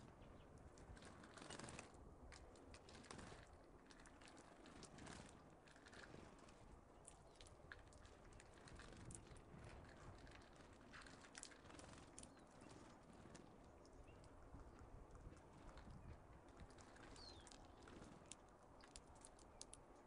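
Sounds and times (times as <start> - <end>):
small birds chipping and clicking: 0.0 - 20.0.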